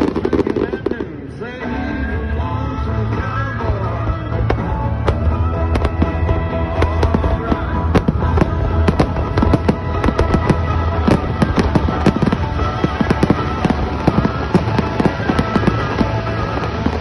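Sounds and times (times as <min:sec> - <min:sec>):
fireworks bangs and crackles: 0:00.0 - 0:01.5, 0:03.0 - 0:17.0
music playing: 0:00.0 - 0:17.0.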